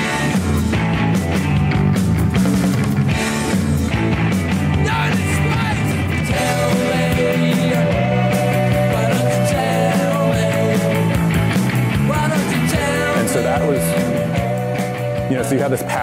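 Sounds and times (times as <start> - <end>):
held melody line: 0.0 - 16.0
rock music: 0.0 - 16.0.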